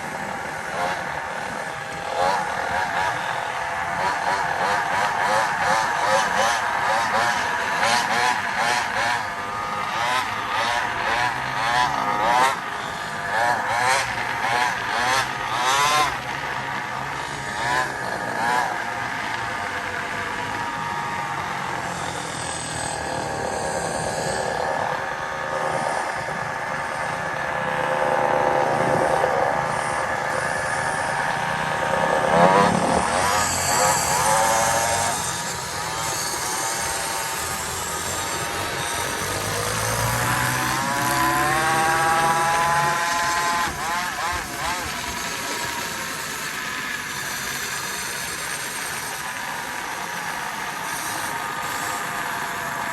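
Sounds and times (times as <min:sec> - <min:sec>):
small motorbike engine revving: 0:00.0 - 0:52.9.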